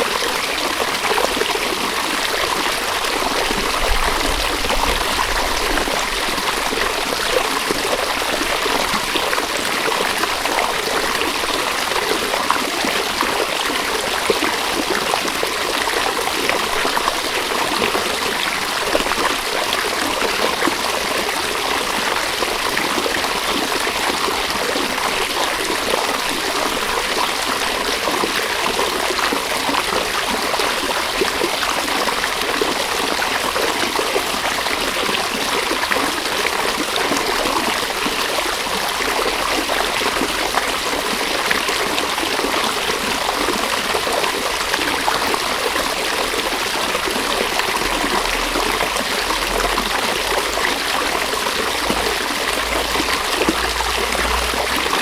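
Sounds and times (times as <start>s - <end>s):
river water babbling over stones: 0.0s - 55.0s.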